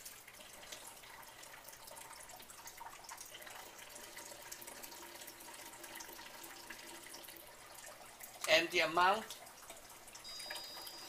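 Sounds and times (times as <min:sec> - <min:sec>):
faint steady hum: 0:00.0 - 0:11.0
water trickling and dripping: 0:00.0 - 0:11.0.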